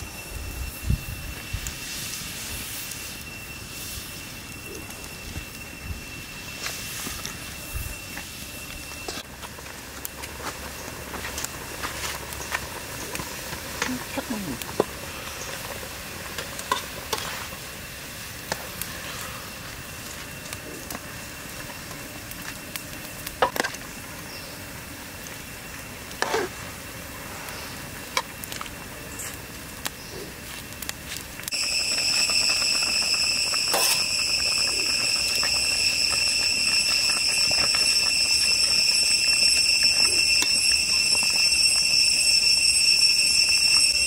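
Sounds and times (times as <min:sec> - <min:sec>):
soup simmering in a pan: 0:00.0 - 0:44.0
steady high-pitched drone: 0:00.0 - 0:44.0
wood fire crackling and popping: 0:00.0 - 0:44.0.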